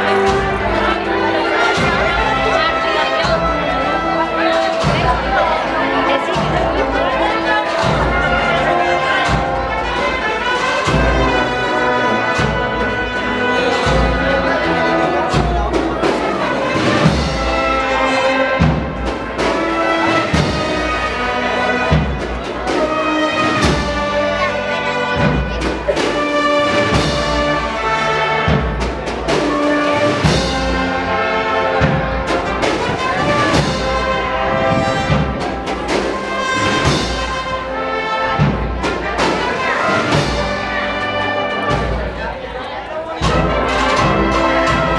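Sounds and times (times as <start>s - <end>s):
steady drumbeat: 0.0s - 42.4s, 43.0s - 44.9s
brass band playing march: 0.0s - 44.9s.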